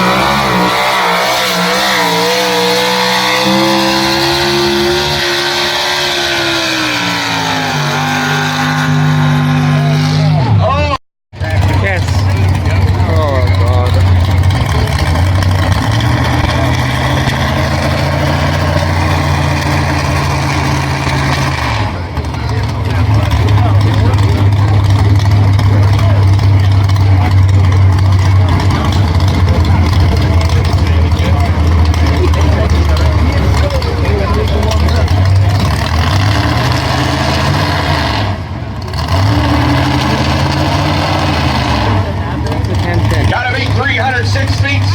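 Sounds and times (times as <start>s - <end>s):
truck engine running loud: 0.0s - 44.9s.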